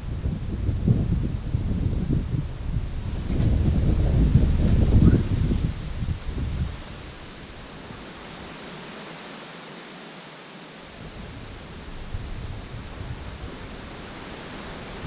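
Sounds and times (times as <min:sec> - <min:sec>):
wind rumble on microphone: 0:00.0 - 0:08.9, 0:10.9 - 0:15.0
wind hissing in trees: 0:00.0 - 0:15.0.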